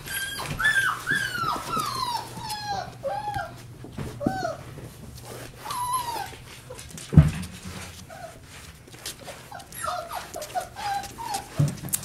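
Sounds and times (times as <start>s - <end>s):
puppies whimpering: 0.0s - 6.9s, 9.2s - 12.0s.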